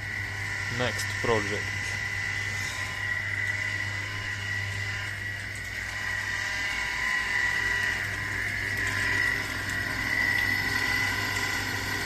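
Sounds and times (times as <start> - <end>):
machine high whine: 0.0 - 12.0
machine low hum: 0.0 - 12.0.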